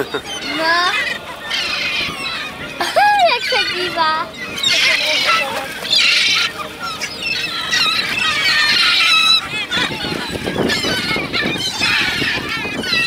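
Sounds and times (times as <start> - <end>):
gulls calling: 0.0 - 13.0.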